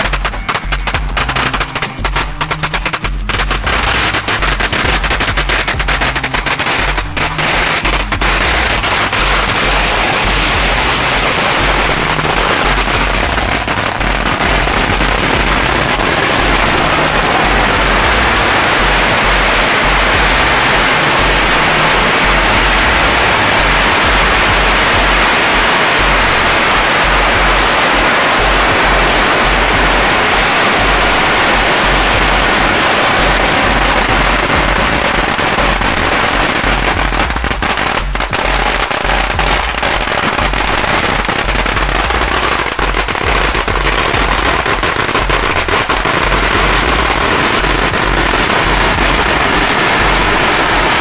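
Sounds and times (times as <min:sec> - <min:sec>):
firecrackers crackling: 0:00.0 - 0:51.0.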